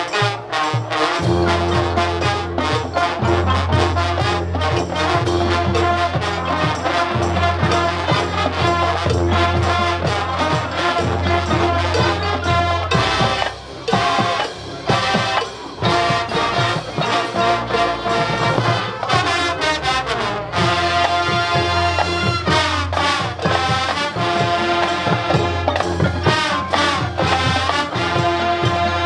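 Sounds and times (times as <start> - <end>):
drum strokes: 0.0 - 29.0
marching band sustained notes: 0.0 - 29.0.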